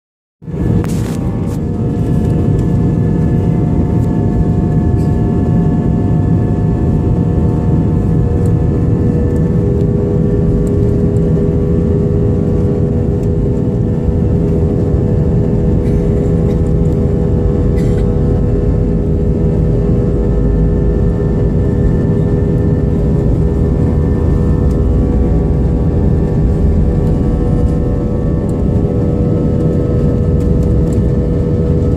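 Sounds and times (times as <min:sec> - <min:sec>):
jet engine rumble: 0:00.4 - 0:31.9
jet engine whine: 0:00.4 - 0:31.9.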